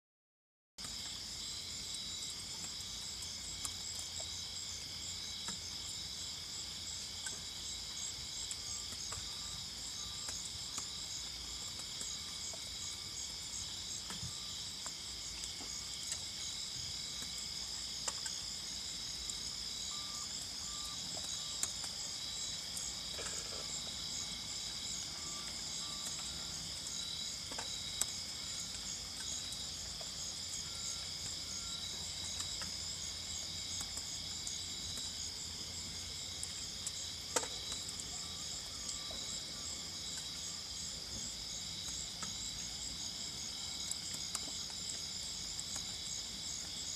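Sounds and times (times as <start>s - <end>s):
night insects trilling: 0.8s - 46.9s.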